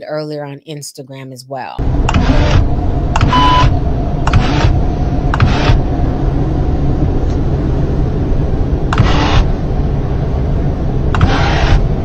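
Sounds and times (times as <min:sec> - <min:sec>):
low rumble inside car: 0:01.8 - 0:12.0.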